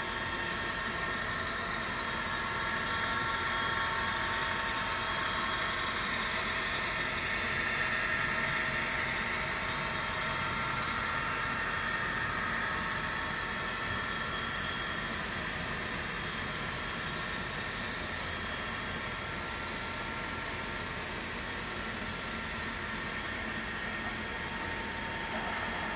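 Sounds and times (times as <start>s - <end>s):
model train running with whine: 0.0s - 25.9s.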